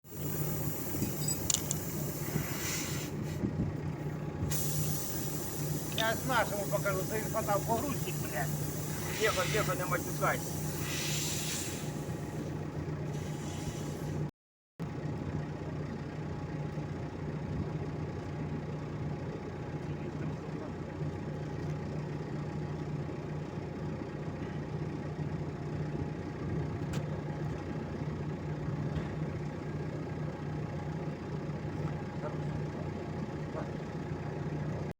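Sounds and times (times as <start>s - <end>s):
forklift engine idling: 0.0s - 34.9s.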